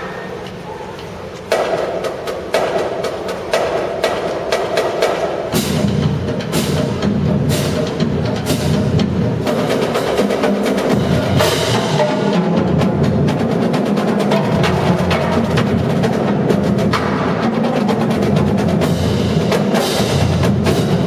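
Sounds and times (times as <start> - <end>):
snare drums: 1.4 - 21.0.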